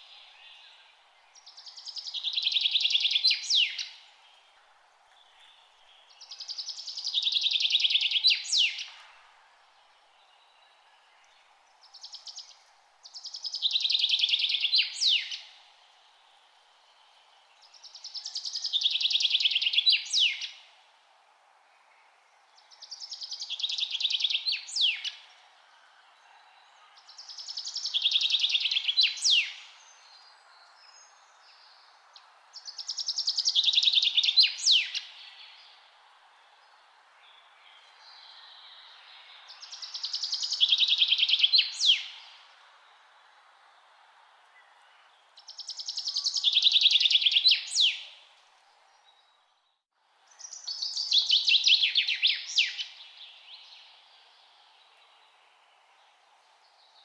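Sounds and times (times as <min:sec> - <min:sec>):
songbird singing trills: 0:00.0 - 0:04.5, 0:05.2 - 0:09.0, 0:09.9 - 0:15.6, 0:16.9 - 0:20.6, 0:22.6 - 0:35.9, 0:36.6 - 0:43.1, 0:44.5 - 0:48.2, 0:48.8 - 0:57.0
faint background hiss: 0:00.0 - 0:57.0.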